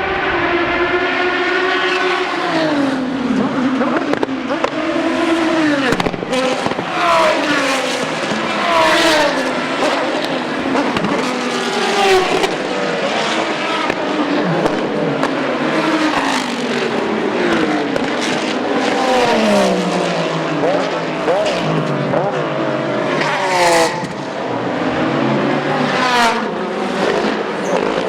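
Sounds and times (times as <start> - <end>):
race cars passing at speed: 0.0 - 28.0.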